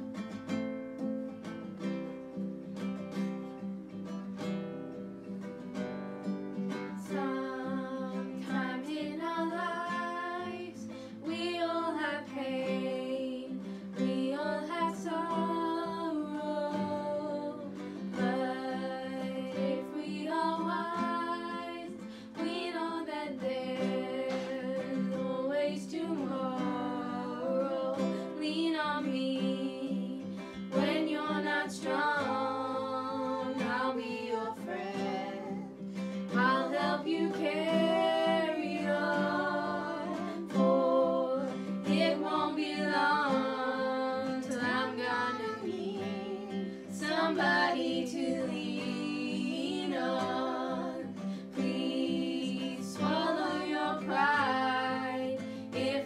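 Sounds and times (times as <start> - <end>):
strummed acoustic guitar: 0.0 - 56.0
two women singing: 6.6 - 56.0.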